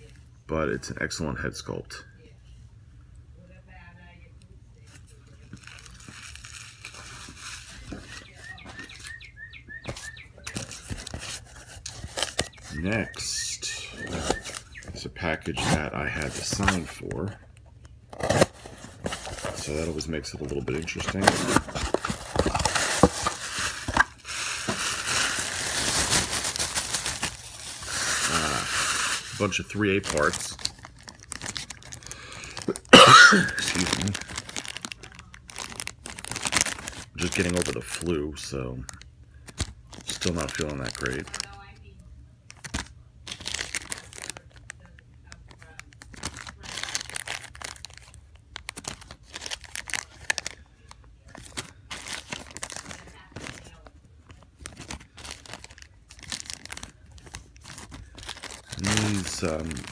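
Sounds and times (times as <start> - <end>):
plastic bags crinkling: 5.0 - 9.2, 9.9 - 17.4, 18.1 - 41.8, 42.5 - 59.9.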